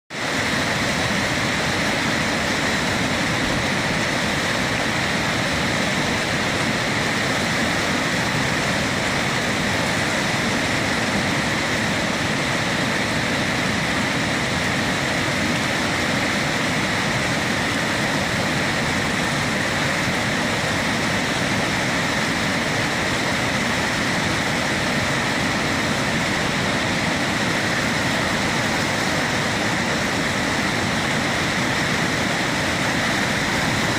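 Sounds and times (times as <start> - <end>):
river rapids rushing: 0.1 - 33.9.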